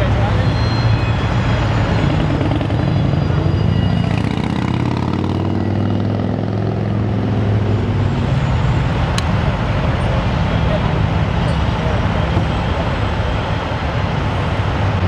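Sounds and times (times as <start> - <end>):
large vehicle engine running: 0.0 - 15.0
road traffic noise: 0.0 - 15.0.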